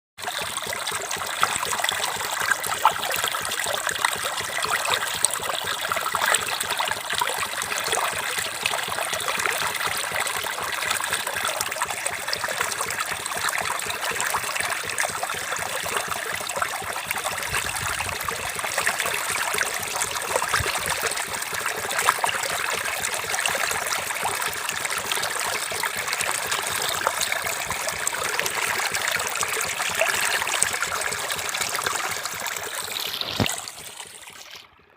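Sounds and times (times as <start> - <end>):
running water trickling and splashing: 0.2 - 34.9.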